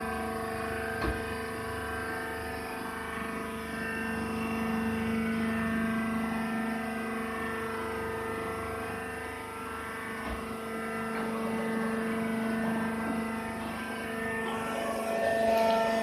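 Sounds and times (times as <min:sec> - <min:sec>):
baler machine humming: 0:00.2 - 0:16.0.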